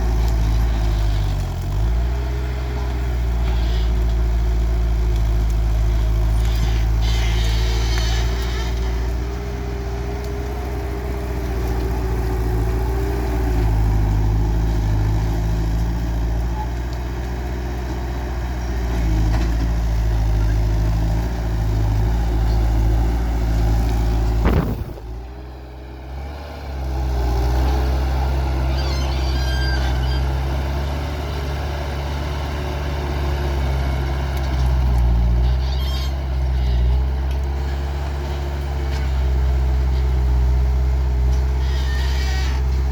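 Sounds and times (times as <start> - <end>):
loader engine running with whine: 0.0 - 42.9.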